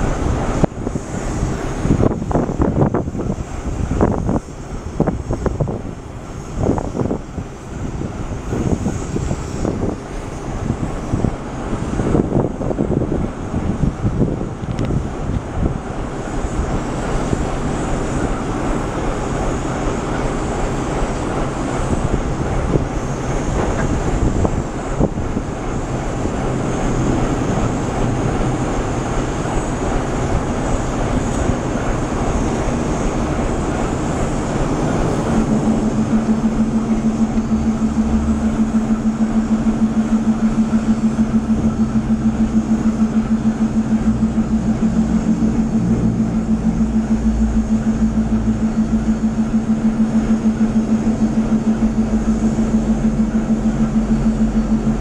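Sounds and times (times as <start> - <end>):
electric locomotive running noise: 0.0 - 55.0
low hum of rolling coaches: 0.0 - 55.0.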